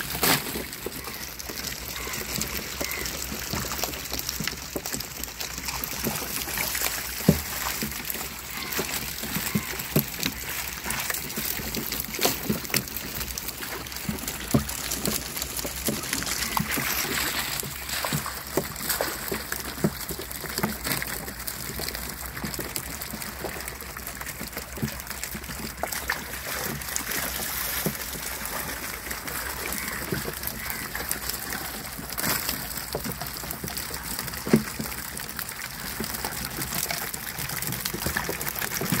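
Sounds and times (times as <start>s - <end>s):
water splashing and trickling: 0.0s - 39.0s.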